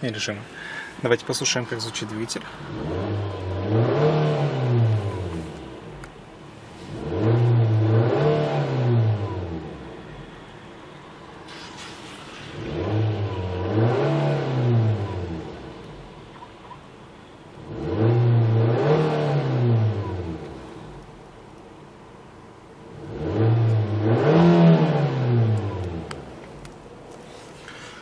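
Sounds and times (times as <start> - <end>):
car engine idling and revving: 1.1 - 28.0.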